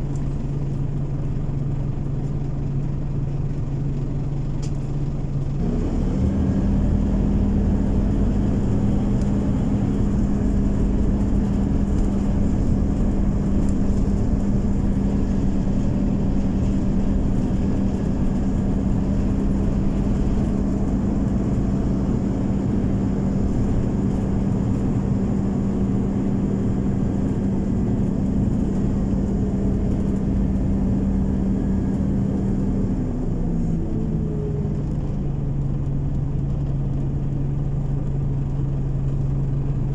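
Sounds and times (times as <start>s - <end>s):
bus engine humming: 0.0s - 39.9s.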